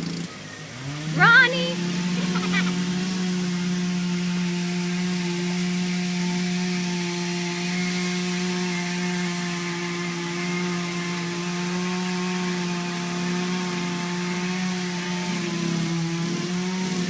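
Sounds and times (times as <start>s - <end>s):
small dirt bike engine running: 0.0s - 17.0s.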